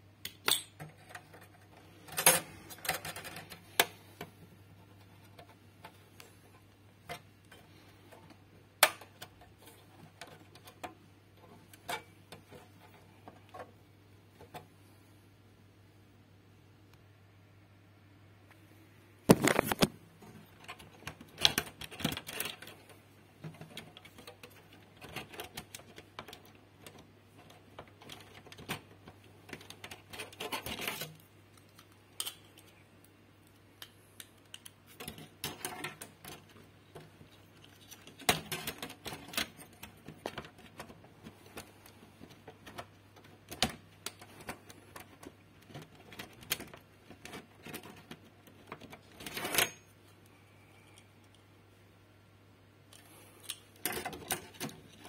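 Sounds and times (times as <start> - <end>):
faint steady low hum: 0.0 - 55.0
clicks and rattles of hardware handling: 0.4 - 13.8, 19.3 - 32.7, 33.8 - 49.9, 52.9 - 55.0.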